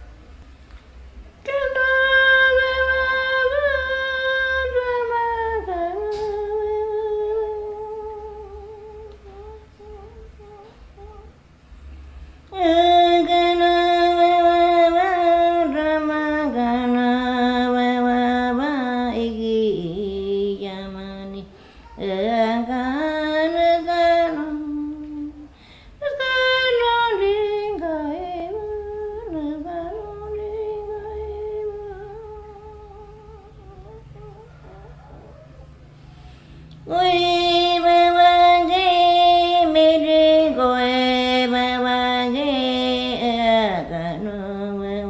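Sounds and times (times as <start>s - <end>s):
woman singing unaccompanied: 1.4s - 11.5s, 12.5s - 35.4s, 36.7s - 45.0s.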